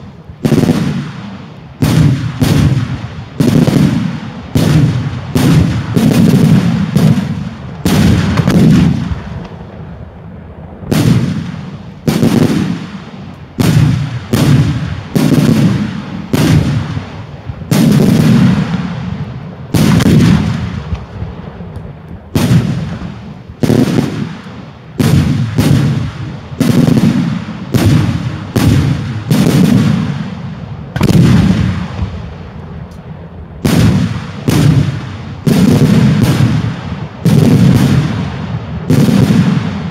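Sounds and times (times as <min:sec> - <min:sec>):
fireworks bangs with rolling rumble: 0:00.0 - 0:39.9.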